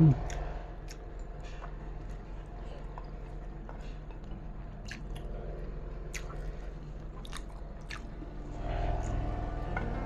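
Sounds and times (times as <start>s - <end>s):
person chewing with wet mouth sounds: 0.0s - 9.3s
low steady hum: 0.0s - 10.0s.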